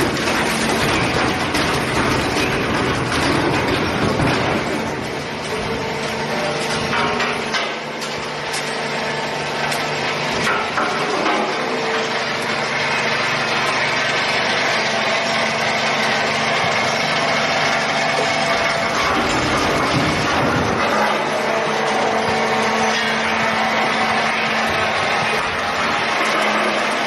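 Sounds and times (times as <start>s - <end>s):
crusher machine running: 0.0s - 27.0s.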